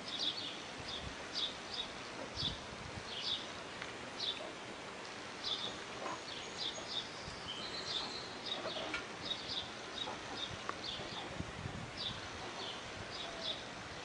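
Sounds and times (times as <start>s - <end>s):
small birds chirping: 0.0s - 14.0s
steady outdoor hiss: 0.0s - 14.0s.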